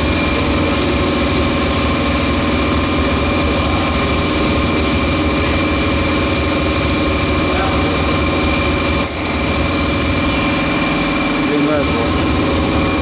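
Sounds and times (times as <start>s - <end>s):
machine motors humming: 0.0s - 13.0s.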